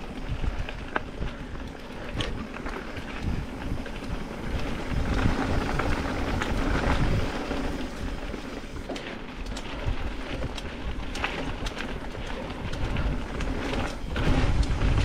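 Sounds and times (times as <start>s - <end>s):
wind rushing over microphone: 0.0s - 8.8s, 9.8s - 15.0s
bike clicks and knocks: 0.0s - 15.0s
bike tyres rattling over dirt: 0.0s - 15.0s.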